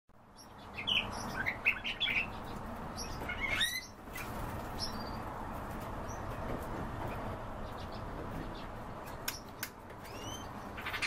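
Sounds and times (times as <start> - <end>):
songbirds chirping: 0.2 - 11.0
steady background noise: 0.2 - 11.0.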